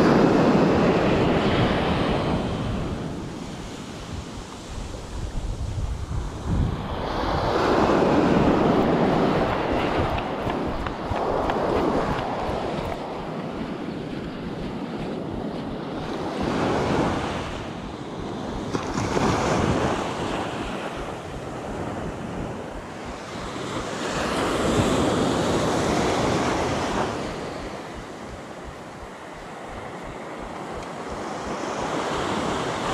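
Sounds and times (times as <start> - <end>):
surf waves breaking on sand: 0.0 - 32.9
wind buffeting microphone: 0.0 - 32.9.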